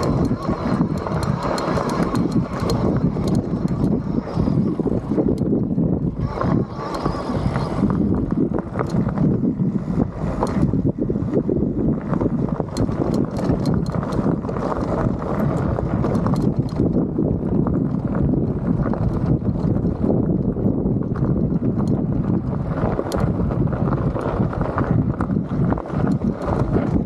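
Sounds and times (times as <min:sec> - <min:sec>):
bike rattling and knocking: 0:00.0 - 0:27.0
tyres rolling over loose rocks: 0:00.0 - 0:27.0
wind on microphone: 0:00.0 - 0:27.0.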